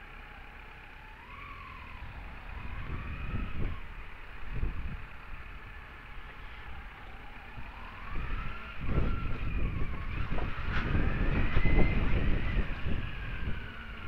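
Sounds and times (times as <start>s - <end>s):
motorcycle engine whine: 0.0s - 14.0s
wind noise: 1.8s - 14.0s.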